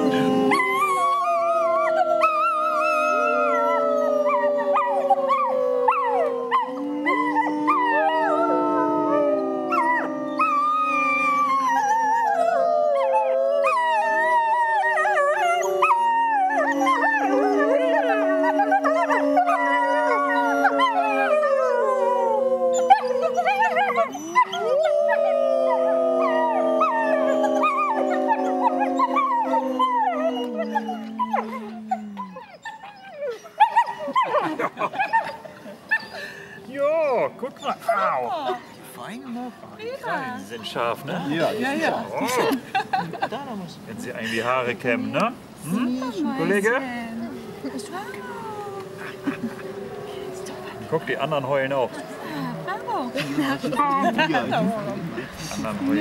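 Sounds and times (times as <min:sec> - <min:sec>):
higher wavering calls: 0:00.0 - 0:34.9, 0:45.6 - 0:56.0
people and wolf pups howling: 0:00.0 - 0:38.8, 0:39.8 - 0:42.6, 0:44.0 - 0:56.0.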